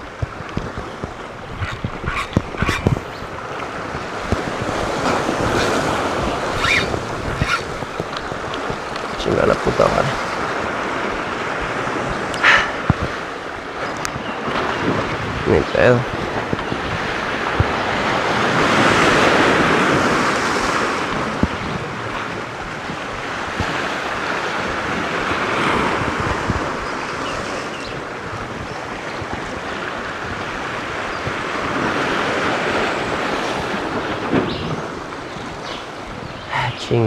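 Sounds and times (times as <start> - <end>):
waves breaking over rocks: 0.0 - 37.0
wind buffeting microphone: 0.0 - 37.0.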